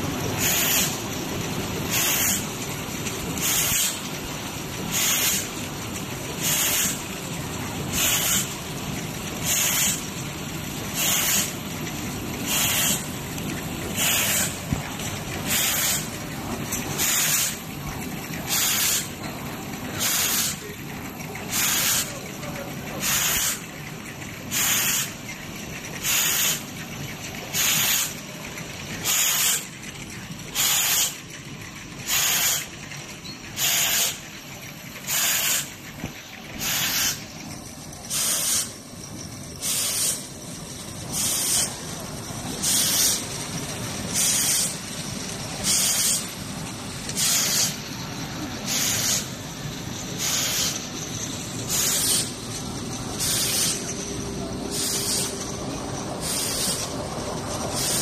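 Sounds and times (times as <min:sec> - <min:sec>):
spray jets hissing blasts: 0:00.0 - 0:31.3, 0:32.0 - 0:32.9, 0:33.5 - 0:58.0
steady machine noise: 0:00.0 - 0:58.0.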